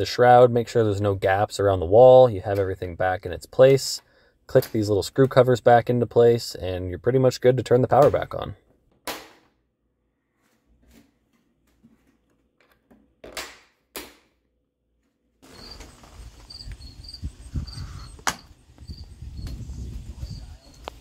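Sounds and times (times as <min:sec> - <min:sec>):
outdoor background: 0:00.0 - 0:21.0.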